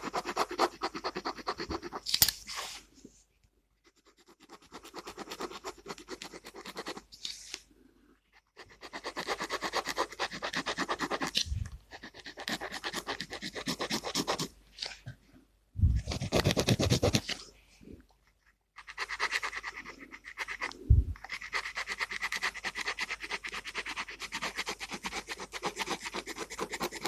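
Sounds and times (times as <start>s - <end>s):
pen scratching on paper: 0.0s - 2.1s, 3.8s - 7.6s, 8.3s - 14.6s, 16.0s - 17.5s, 18.8s - 27.0s.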